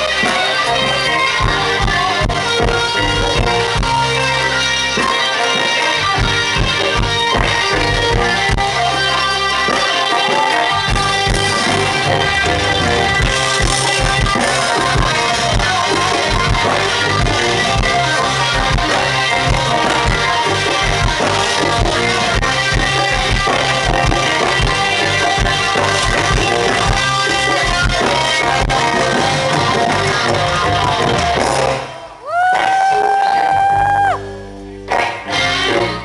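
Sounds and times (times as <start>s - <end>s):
bass guitar: 0.0s - 36.0s
drum kit beat: 0.0s - 36.0s
electric guitar: 0.0s - 36.0s.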